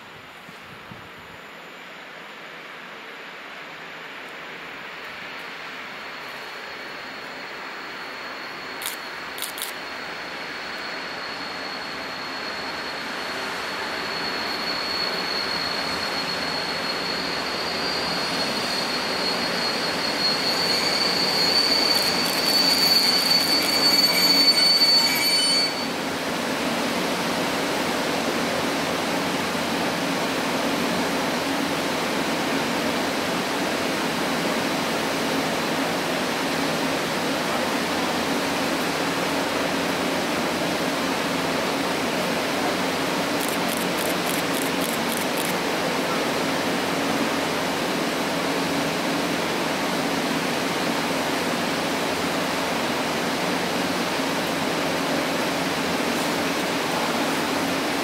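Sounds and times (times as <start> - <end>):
train low hum: 0.0 - 58.0
train brake squeal: 3.9 - 58.0.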